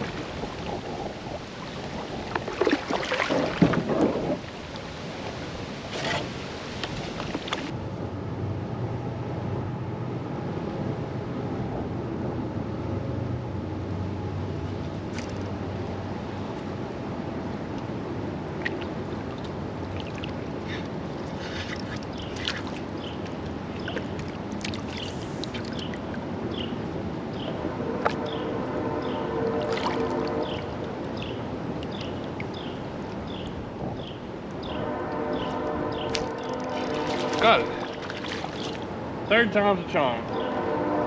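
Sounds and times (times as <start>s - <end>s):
creek water rushing: 0.0s - 7.8s, 15.0s - 41.0s
wind: 0.0s - 41.0s.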